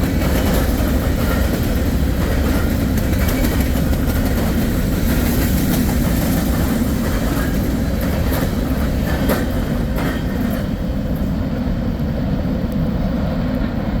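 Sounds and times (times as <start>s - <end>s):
wheels clicking over rail joints: 0.0s - 11.4s
freight train rolling past: 0.0s - 14.0s.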